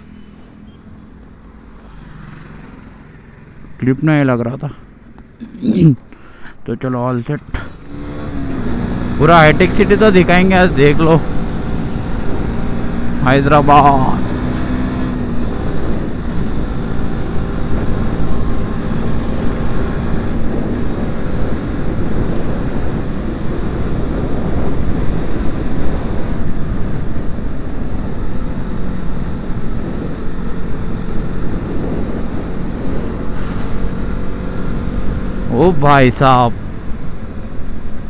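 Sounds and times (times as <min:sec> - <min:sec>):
motorcycle engine running: 0:00.0 - 0:04.0, 0:07.4 - 0:38.0
wind rushing over microphone: 0:07.4 - 0:38.0.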